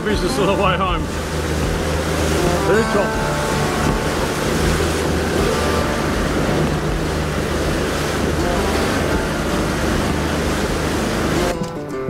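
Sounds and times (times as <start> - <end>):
water rushing off hull: 0.0 - 11.7
wind buffeting microphone: 0.0 - 11.7
motorboat engine drone: 0.0 - 11.8.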